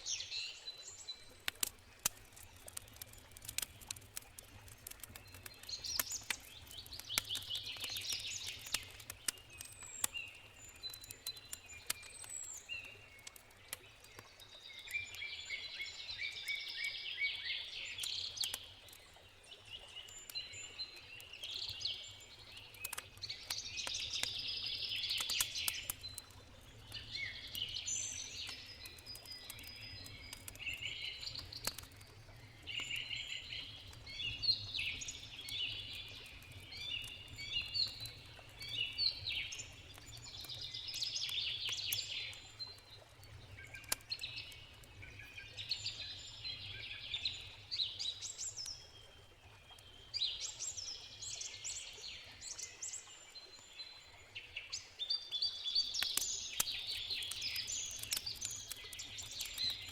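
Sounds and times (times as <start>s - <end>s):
campfire crackling and popping: 0.0s - 59.9s
songbirds singing: 0.0s - 59.9s.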